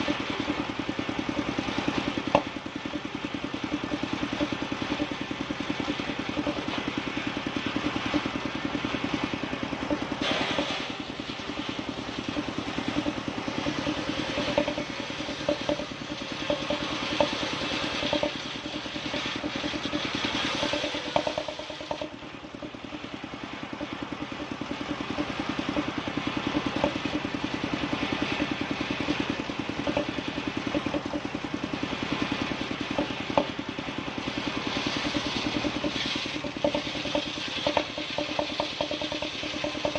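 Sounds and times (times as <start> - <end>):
engine-driven wood saw running: 0.0 - 39.9.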